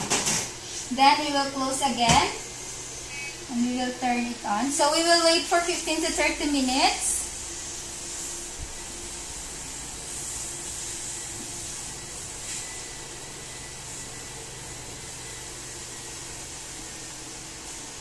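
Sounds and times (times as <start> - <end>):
steam sterilizer hissing: 0.0 - 18.0.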